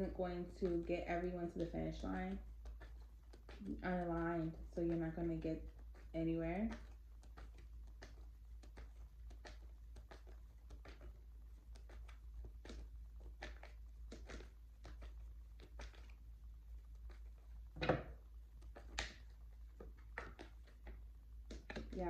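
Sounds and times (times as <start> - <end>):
faint ticks and rustles: 0.0 - 22.0
steady low hum: 0.0 - 22.0.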